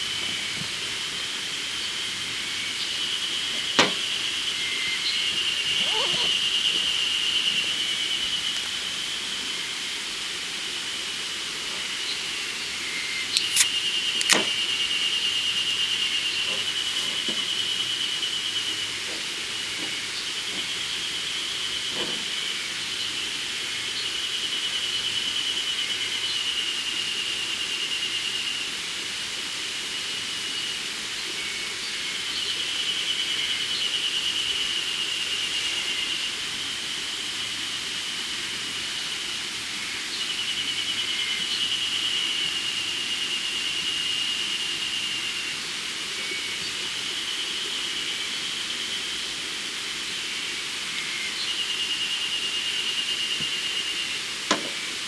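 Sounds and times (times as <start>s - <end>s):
cicadas buzzing: 0.4s - 10.5s, 11.9s - 55.0s.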